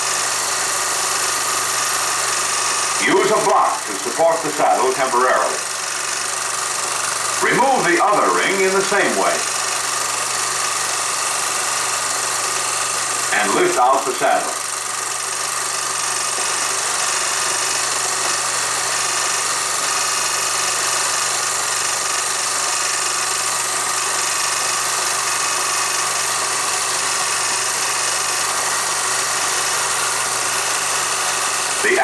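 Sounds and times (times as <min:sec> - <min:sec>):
film projector running: 0:00.0 - 0:32.0.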